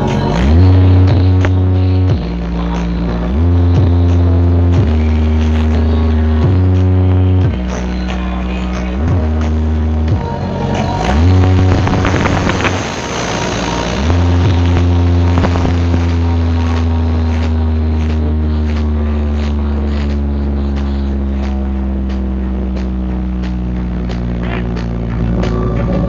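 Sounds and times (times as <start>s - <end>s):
deep bass tone from sound system: 0.0s - 26.0s.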